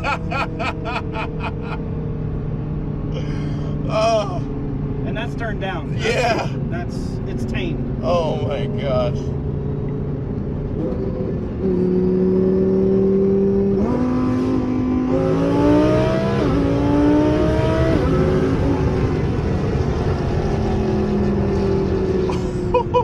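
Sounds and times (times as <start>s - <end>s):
sports car engine accelerating: 0.0s - 23.0s.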